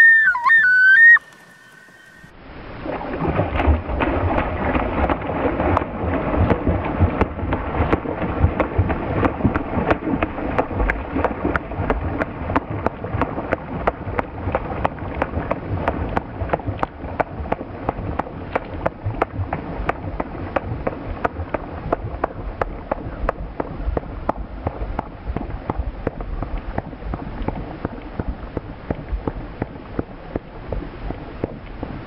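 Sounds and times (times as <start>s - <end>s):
bird splashing across water: 0.1s - 31.8s.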